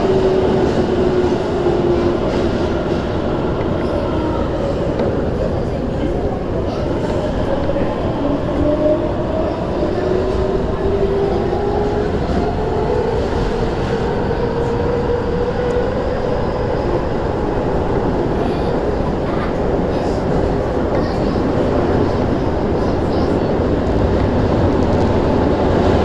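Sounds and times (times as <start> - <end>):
train wheel and track rumble: 0.0 - 26.0.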